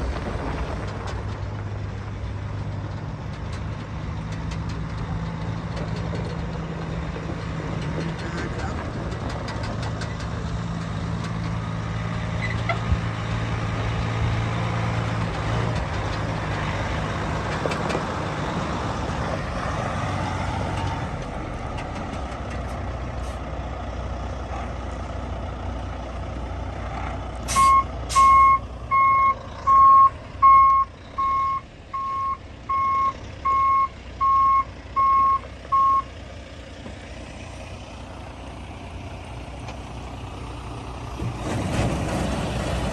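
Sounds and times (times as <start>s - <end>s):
diesel truck engine idling: 0.0s - 41.4s.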